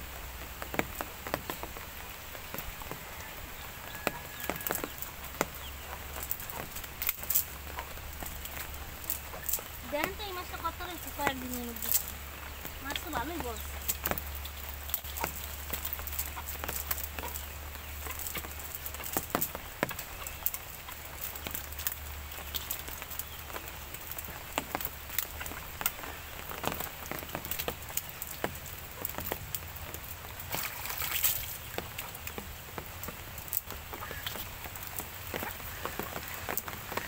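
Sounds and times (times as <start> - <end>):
fish flapping on wet mud: 0.5 - 37.0.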